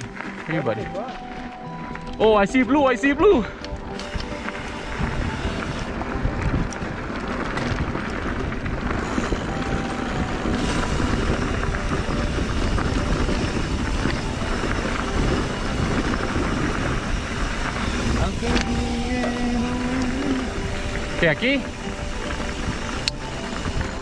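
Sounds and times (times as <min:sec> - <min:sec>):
bike clicks and rattles: 0:03.3 - 0:24.0
wind buffeting microphone: 0:03.3 - 0:24.0.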